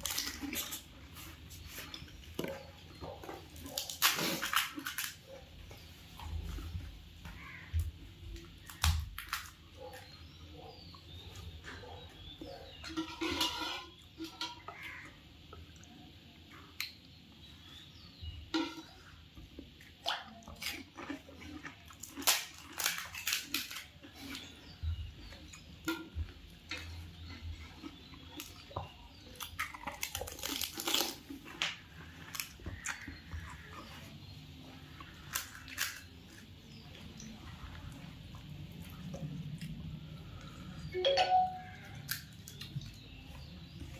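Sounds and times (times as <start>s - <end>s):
crunching of crisp food: 0.0s - 43.9s.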